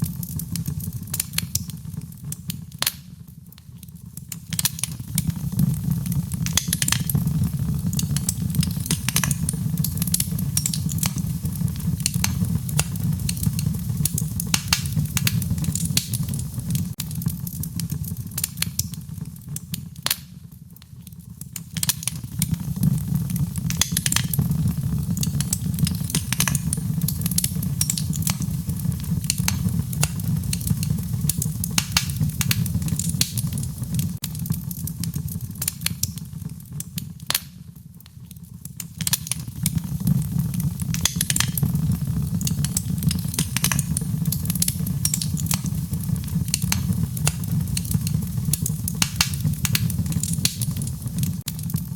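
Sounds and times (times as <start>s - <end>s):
low rumble of flame: 0.0s - 51.9s
wood fire crackling: 0.0s - 51.9s.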